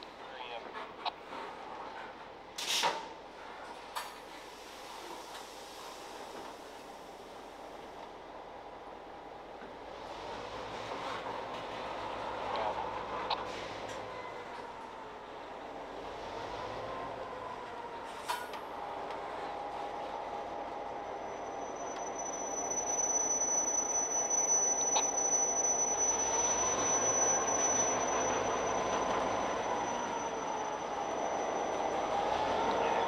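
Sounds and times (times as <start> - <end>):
train wheels squealing on rails: 0.8 - 8.0, 9.8 - 33.0.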